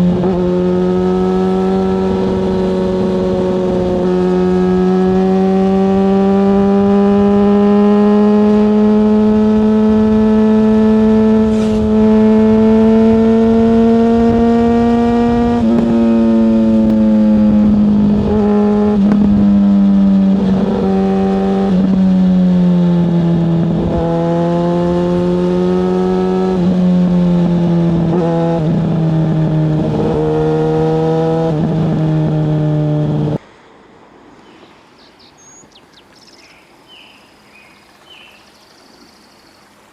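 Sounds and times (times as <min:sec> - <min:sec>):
motorcycle engine revving: 0:00.0 - 0:33.4.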